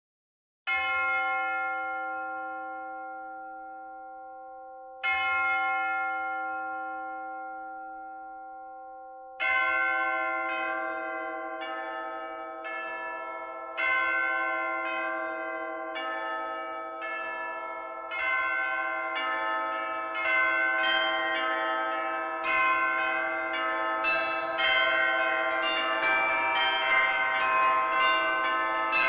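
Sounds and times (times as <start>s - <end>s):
church bells ringing: 0.7s - 29.0s.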